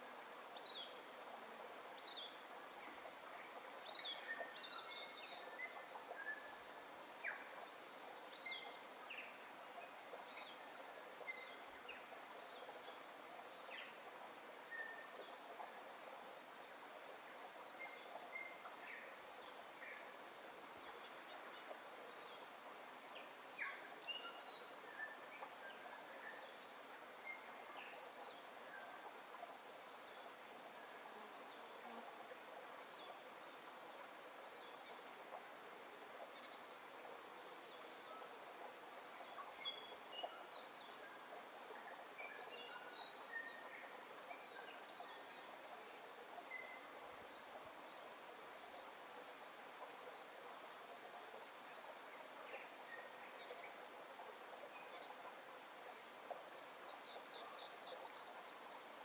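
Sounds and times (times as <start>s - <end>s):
faint outdoor hiss: 0.0s - 59.0s.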